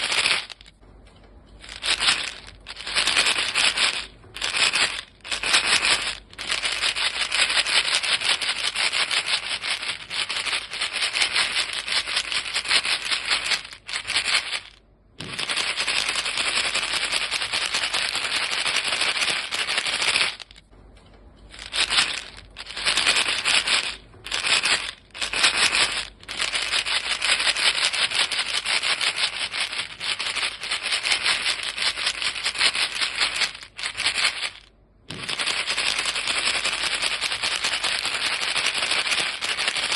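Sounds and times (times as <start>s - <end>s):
chewing gum rattling in box: 0.0s - 0.8s, 1.6s - 20.6s, 21.5s - 39.9s.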